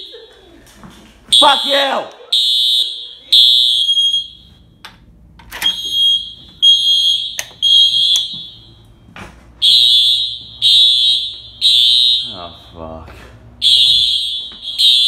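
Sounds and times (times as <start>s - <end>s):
fire alarm horn blasts: 1.3s - 4.8s, 5.6s - 12.8s, 13.6s - 15.0s.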